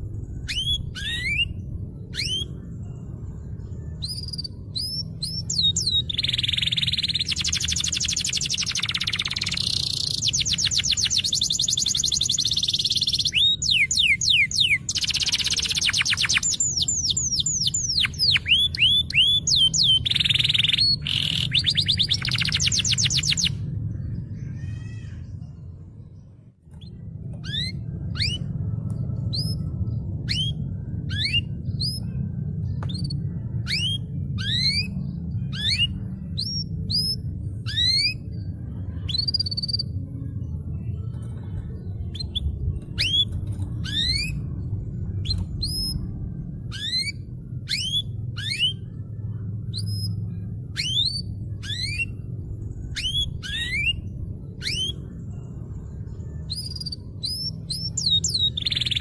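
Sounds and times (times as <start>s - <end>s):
steady low hum: 0.0s - 59.0s
canary singing: 0.2s - 25.6s, 26.7s - 40.5s, 41.1s - 59.0s.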